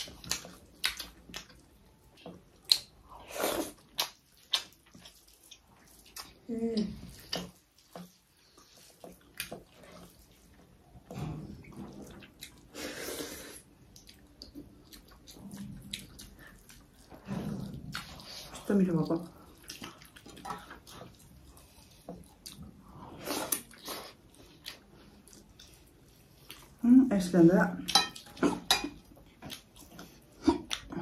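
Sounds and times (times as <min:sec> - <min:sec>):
wet chewing and lip-smacking: 0:00.0 - 0:12.8, 0:13.5 - 0:26.8, 0:27.9 - 0:31.0.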